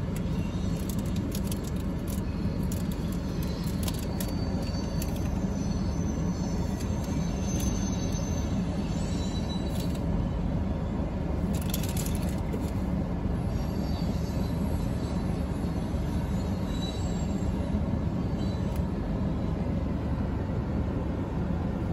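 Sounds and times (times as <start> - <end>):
faint high wheel squeals: 0.0 - 19.8
train wheels rumbling on rails: 0.0 - 21.9.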